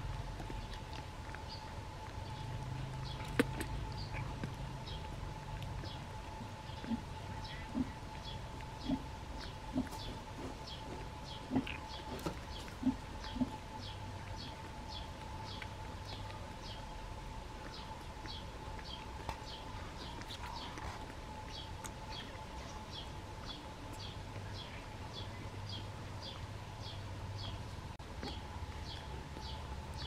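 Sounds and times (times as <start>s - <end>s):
faint steady whine: 0.0s - 30.0s
low hum: 0.0s - 30.0s.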